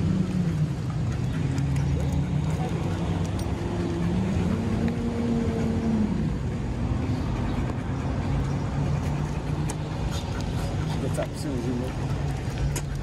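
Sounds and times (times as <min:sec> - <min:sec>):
background traffic noise: 0:00.0 - 0:13.0.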